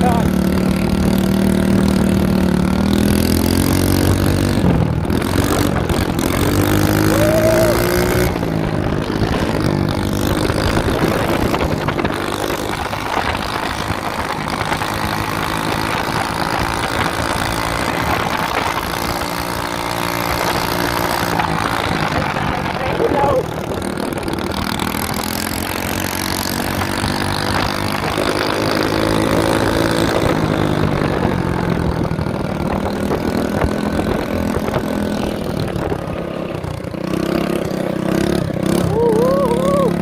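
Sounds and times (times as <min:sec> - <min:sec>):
mini bike engine running: 0:00.0 - 0:40.0.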